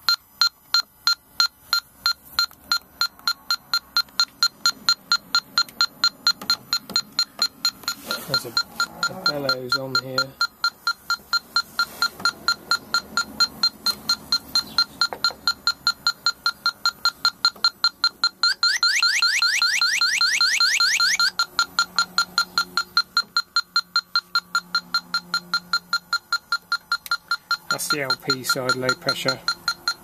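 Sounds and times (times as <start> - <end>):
leak detector alarm warble: 0.0 - 30.0
leak detector rapid beeps: 0.0 - 30.0.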